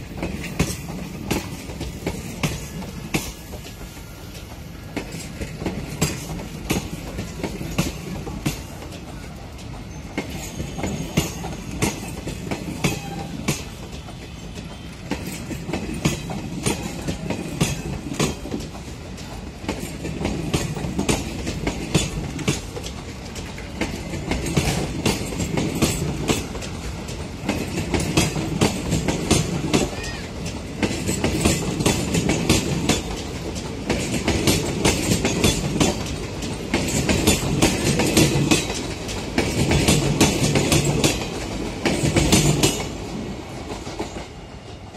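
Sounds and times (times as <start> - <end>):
train wheels clattering over rail joints: 0.0 - 44.9.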